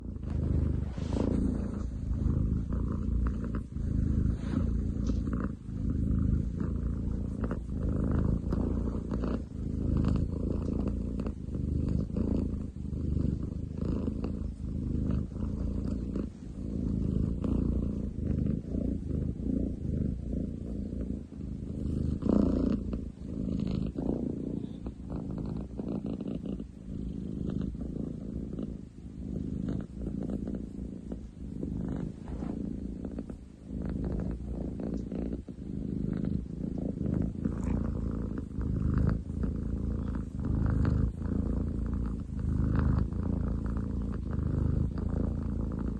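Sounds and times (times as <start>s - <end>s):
cat purring loudly: 0.0s - 45.9s.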